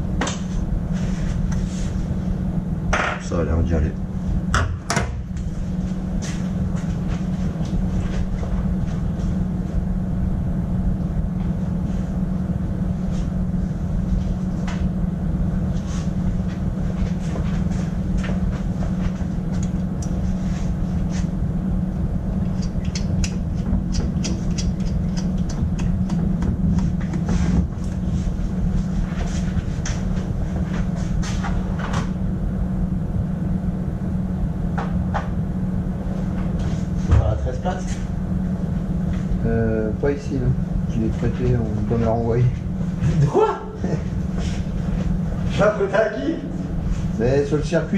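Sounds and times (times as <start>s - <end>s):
machine drone: 0.0s - 47.9s.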